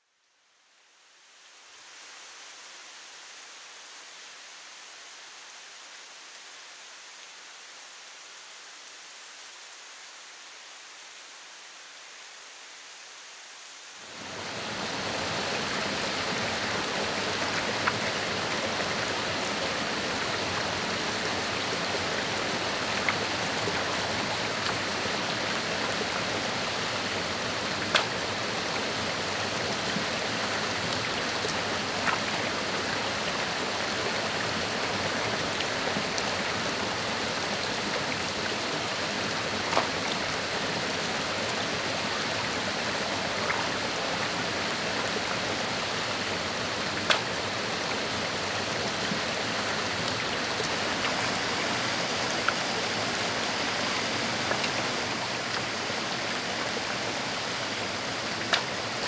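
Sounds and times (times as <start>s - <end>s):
stream rushing over rocks: 1.1s - 59.0s.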